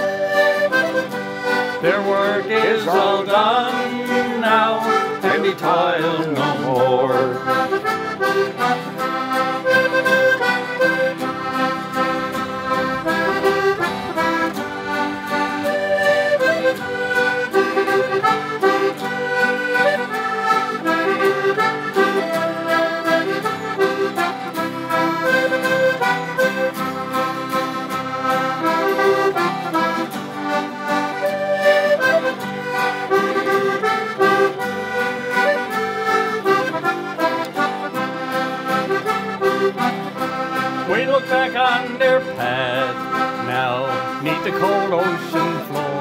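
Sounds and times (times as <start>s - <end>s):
accordion melody: 0.0s - 46.0s
mandolin: 0.0s - 46.0s
strummed acoustic guitars: 0.0s - 46.0s.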